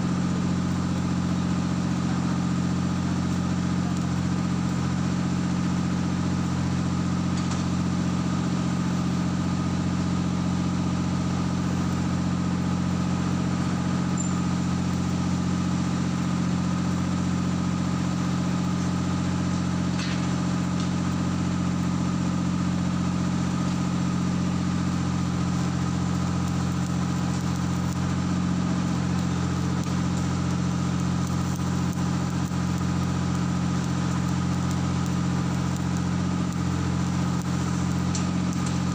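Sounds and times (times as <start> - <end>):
heavy machine engine drone: 0.0 - 38.9.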